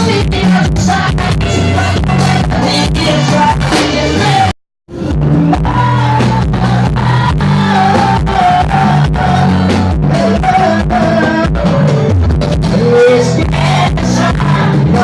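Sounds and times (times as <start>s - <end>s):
person singing: 0.0s - 12.1s, 12.7s - 15.0s
live band music: 0.0s - 15.0s.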